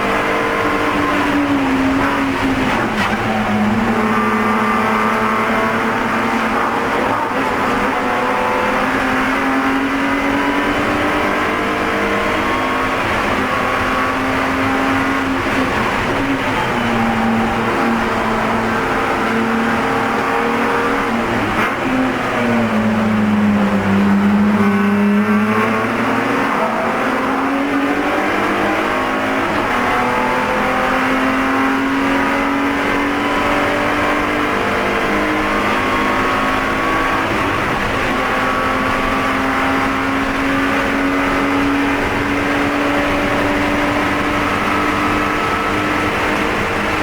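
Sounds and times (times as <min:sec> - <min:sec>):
race car engine running hard: 0:00.0 - 0:47.0.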